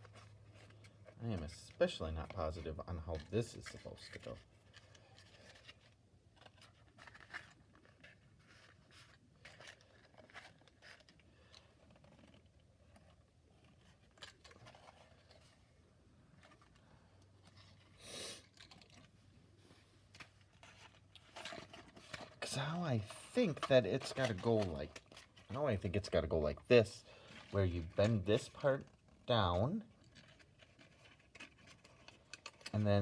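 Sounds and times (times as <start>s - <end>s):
cardboard scrape or crinkle: 0.0s - 15.8s, 17.4s - 33.0s.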